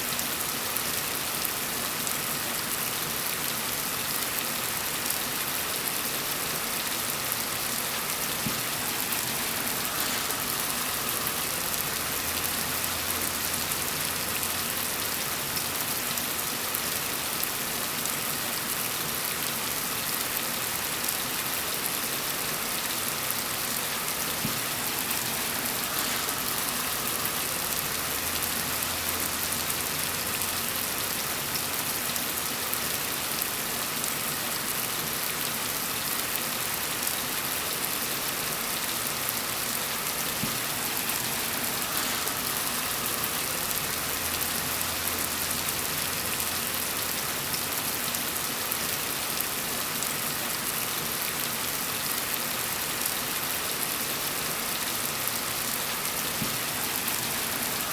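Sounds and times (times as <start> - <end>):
gentle rain falling: 0.0 - 57.9.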